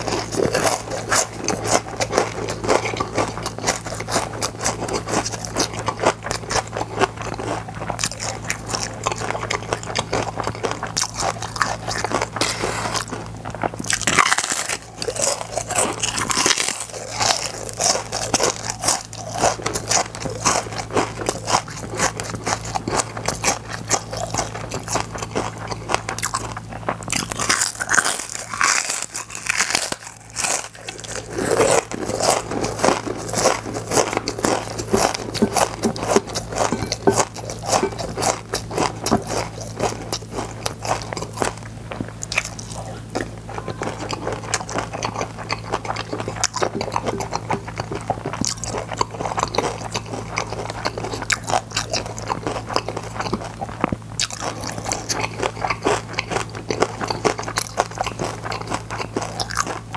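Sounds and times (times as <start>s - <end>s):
crunching and chewing crispy chips: 0.0s - 59.9s
low steady hum: 0.0s - 59.9s.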